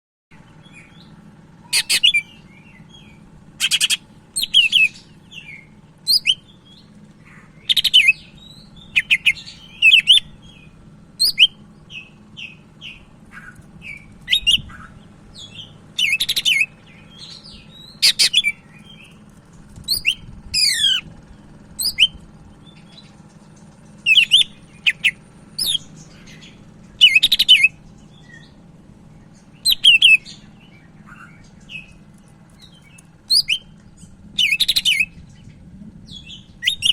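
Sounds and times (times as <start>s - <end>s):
bird singing whistles and trills: 0.6s - 19.1s, 19.9s - 21.1s, 21.8s - 23.2s, 24.0s - 28.6s, 29.2s - 32.0s, 32.6s - 36.9s.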